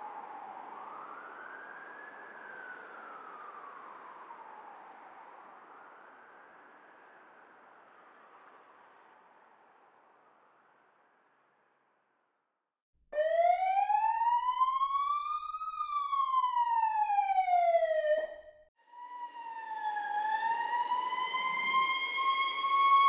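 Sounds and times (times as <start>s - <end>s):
emergency siren wailing: 0.0s - 8.6s, 13.2s - 23.0s.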